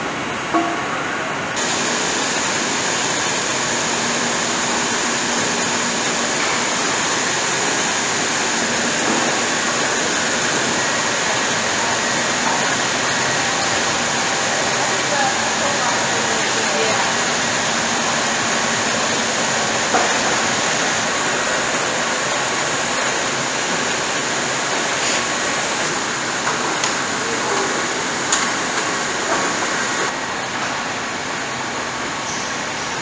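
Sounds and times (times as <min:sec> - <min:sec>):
machinery hum and hiss: 0:00.0 - 0:33.0.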